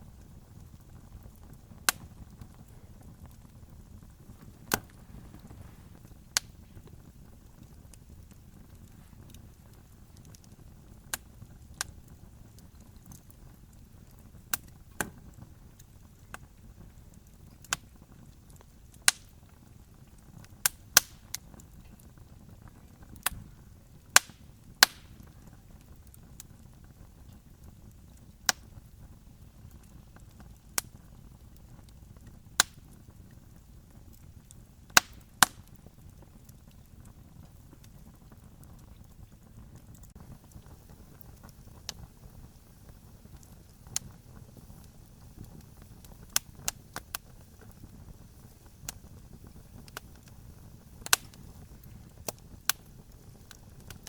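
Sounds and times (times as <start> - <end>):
campfire crackling and popping: 0.0 - 54.0
low steady hiss: 0.0 - 54.0.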